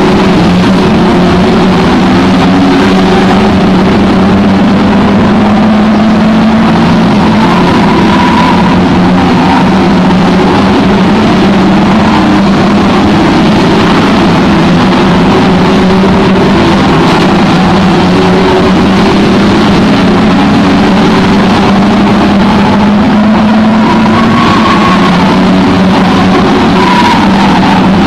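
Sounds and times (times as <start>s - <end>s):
racing car engines: 0.0s - 28.0s.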